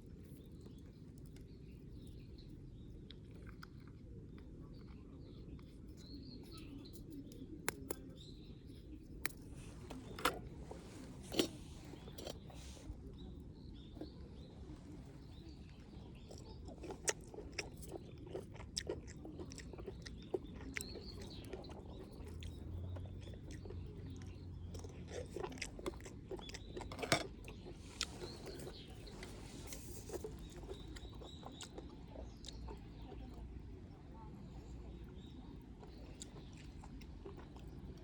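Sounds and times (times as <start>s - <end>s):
chewing and biting: 0.0s - 8.3s, 9.1s - 34.0s, 35.0s - 38.0s.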